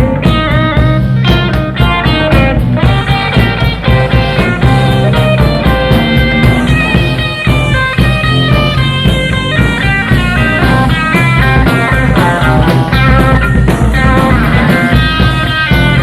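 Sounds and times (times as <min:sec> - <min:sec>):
bass and drums: 0:00.0 - 0:16.0
lead electric guitar runs: 0:00.0 - 0:16.0.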